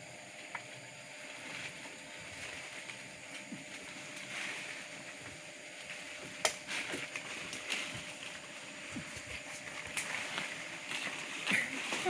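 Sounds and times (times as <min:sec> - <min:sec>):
leaves and branches rustling: 0:00.0 - 0:12.0.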